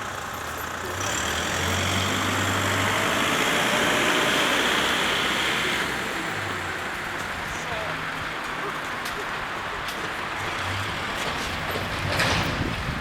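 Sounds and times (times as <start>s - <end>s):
truck diesel engine passing: 0.0s - 13.0s.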